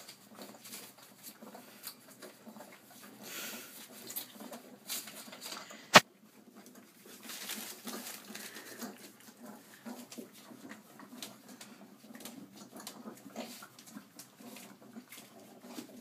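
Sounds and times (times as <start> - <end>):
puppies suckling and shuffling: 0.0 - 16.0.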